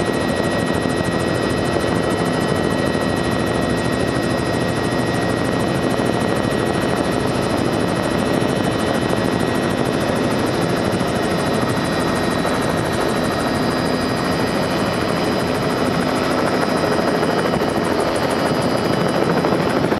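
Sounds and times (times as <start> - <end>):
helicopter engine high whine: 0.0 - 19.9
helicopter rotor noise: 0.0 - 19.9.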